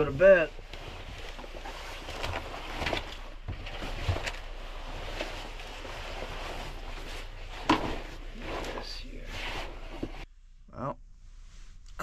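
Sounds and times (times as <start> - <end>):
clothing and sleeping bag rustling: 0.0 - 10.3.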